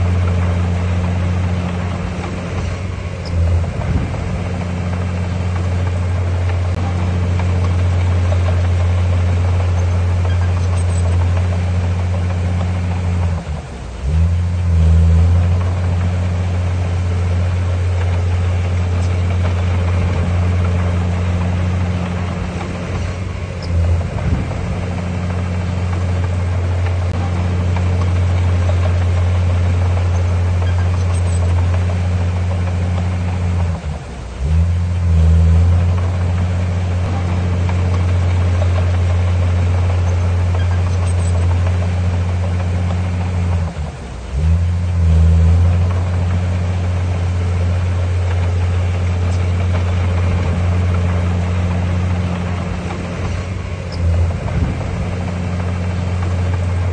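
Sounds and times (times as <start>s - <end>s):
heavy diesel engine drone: 0.0s - 56.9s.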